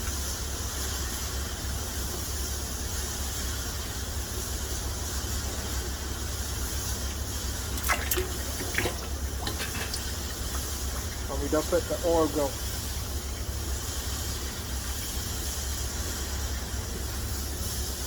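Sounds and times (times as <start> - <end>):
workshop background hiss: 0.0 - 18.0.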